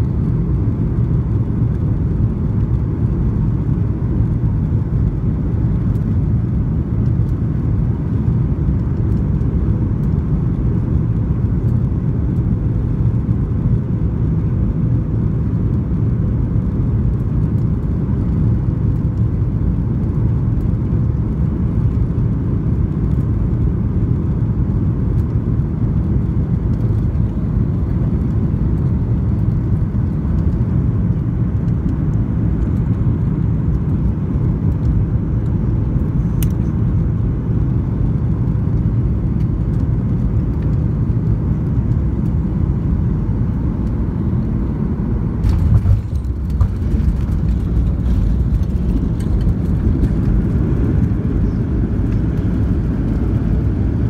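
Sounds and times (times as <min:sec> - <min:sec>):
airplane cabin rumble: 0:00.0 - 0:54.0
faint steady hum: 0:00.0 - 0:54.0.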